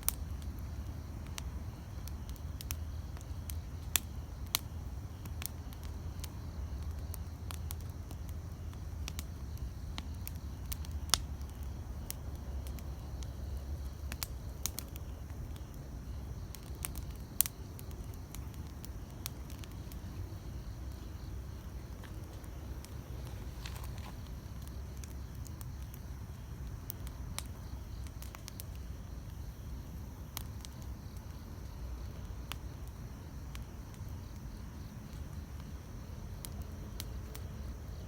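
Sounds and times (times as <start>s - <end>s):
campfire crackling and popping: 0.0s - 38.0s.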